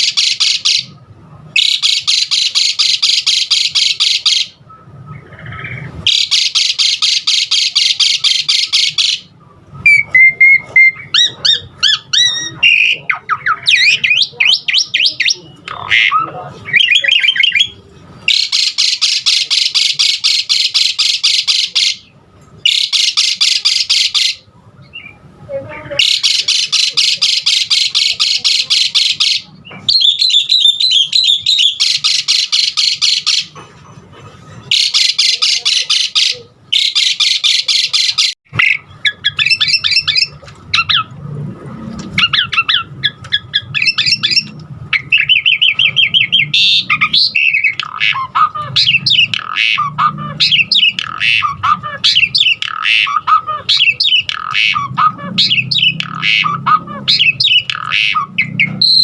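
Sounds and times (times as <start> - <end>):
bird chattering and whistling: 0.0 - 1.0, 1.6 - 25.3, 25.9 - 33.6, 34.5 - 41.2, 42.1 - 59.0.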